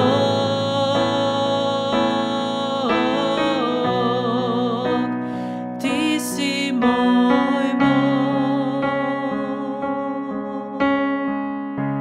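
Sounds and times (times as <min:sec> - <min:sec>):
woman singing with vibrato: 0:00.0 - 0:11.1
keyboard chords: 0:00.0 - 0:12.0.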